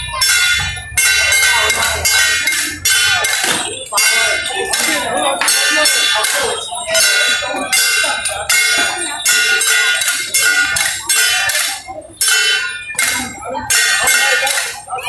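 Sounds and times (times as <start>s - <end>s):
gongs and cymbals beating: 0.0s - 15.0s.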